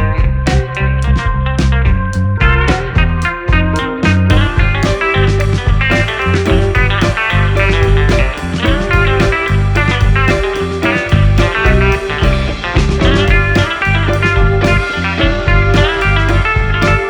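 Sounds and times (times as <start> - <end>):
blues-rock music with guitar: 0.0 - 17.0.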